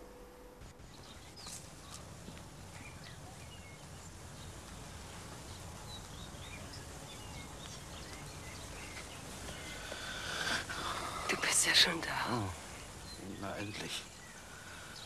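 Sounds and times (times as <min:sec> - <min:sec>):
low background rumble and hiss: 0:00.0 - 0:15.0
small birds chirping: 0:00.7 - 0:15.0.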